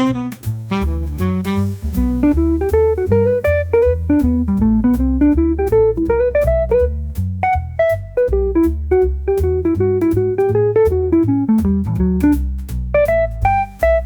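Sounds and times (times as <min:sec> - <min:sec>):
bass line: 0:00.0 - 0:14.0
drum kit beat: 0:00.0 - 0:14.0
plucked guitar melody: 0:00.0 - 0:14.0.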